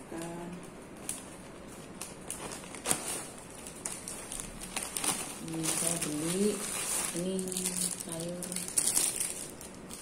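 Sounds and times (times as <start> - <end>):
plastic bags rustling: 0.9 - 10.0.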